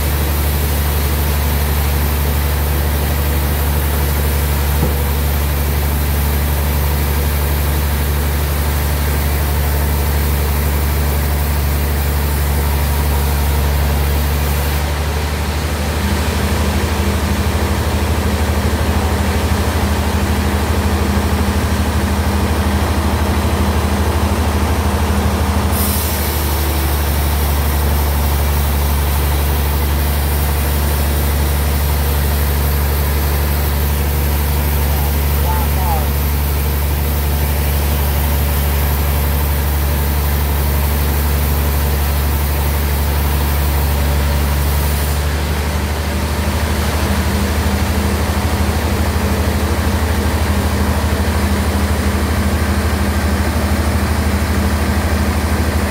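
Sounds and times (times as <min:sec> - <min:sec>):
bandsaw machinery drone: 0:00.0 - 0:55.9.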